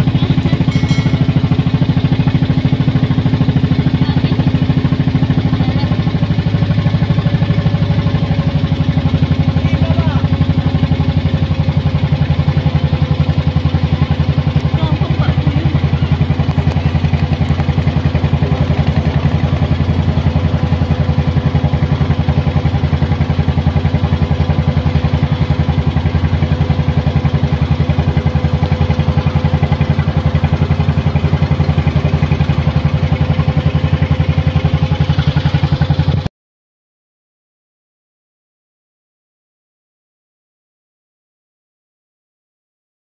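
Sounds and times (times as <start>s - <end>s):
motor boat engine chugging: 0.0s - 36.3s.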